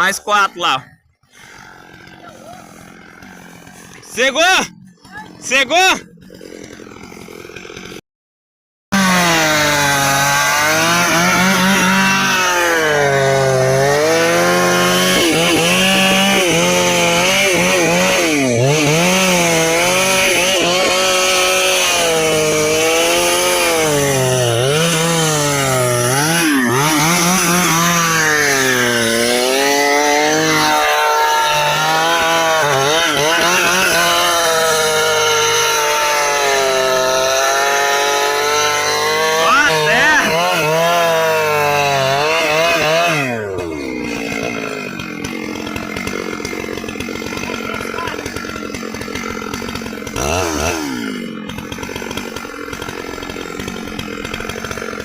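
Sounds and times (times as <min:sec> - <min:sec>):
chainsaw cutting wood: 0:00.0 - 0:08.0, 0:08.9 - 0:55.0.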